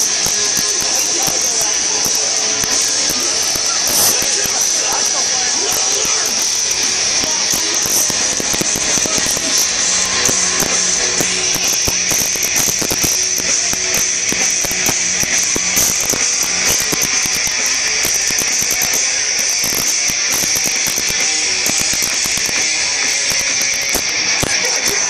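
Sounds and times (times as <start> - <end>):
rapid drum hits: 0.0 - 24.8
live metal band playing: 0.0 - 25.0.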